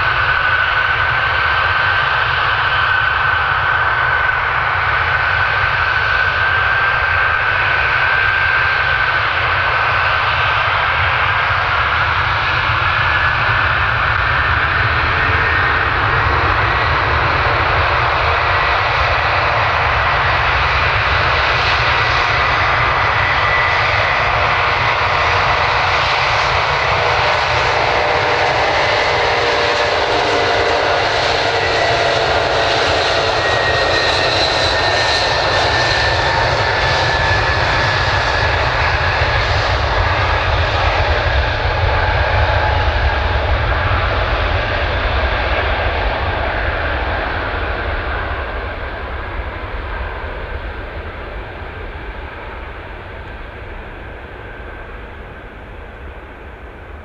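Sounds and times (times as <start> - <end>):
jet engine roar: 0.0 - 57.0
jet engine whine rising: 0.0 - 57.0.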